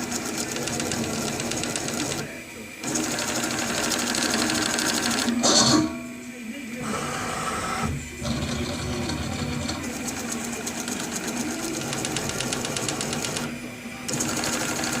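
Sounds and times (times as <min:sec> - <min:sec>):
milling machine hum: 0:00.0 - 0:15.0.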